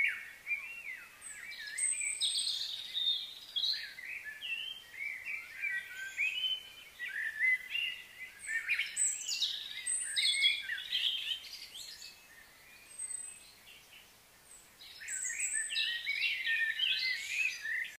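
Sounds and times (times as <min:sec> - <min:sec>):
birds chirping and singing: 0:00.0 - 0:18.0.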